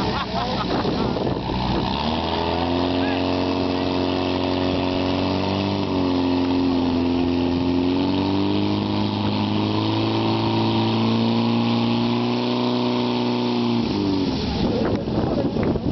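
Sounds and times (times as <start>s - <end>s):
pump engine running at high revs: 0.0s - 15.9s.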